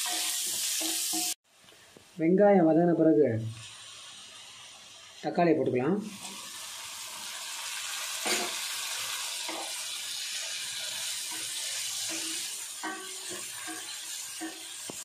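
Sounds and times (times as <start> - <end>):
tomatoes sizzling in hot oil: 0.0 - 15.0.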